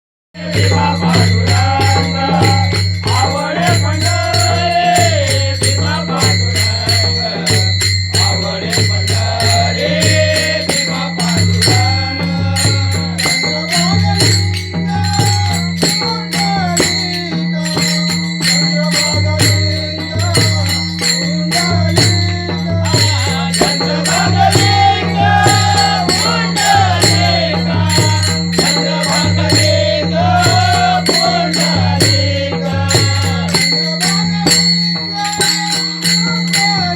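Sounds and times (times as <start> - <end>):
man singing: 0.4 - 36.9
small hand cymbals jingling: 0.4 - 36.9.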